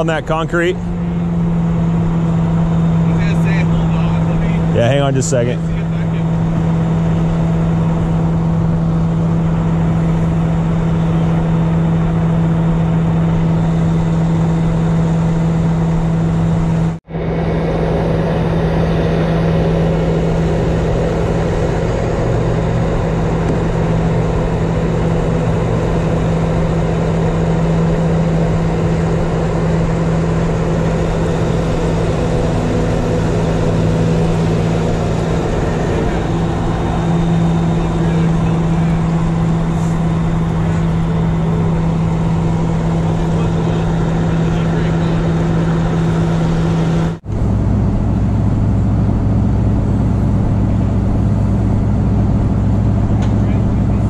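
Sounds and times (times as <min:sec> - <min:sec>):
truck engine humming: 0:00.0 - 0:54.0.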